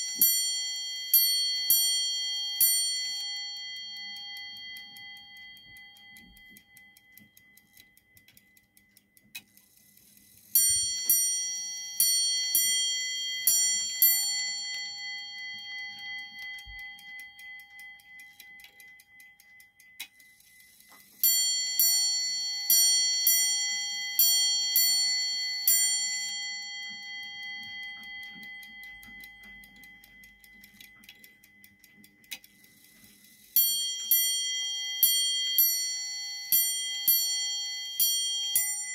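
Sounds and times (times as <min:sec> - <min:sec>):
clock bell ringing: 0:00.0 - 0:08.0, 0:10.6 - 0:20.0, 0:21.2 - 0:31.8, 0:33.5 - 0:38.9
clock ticking: 0:00.0 - 0:38.9.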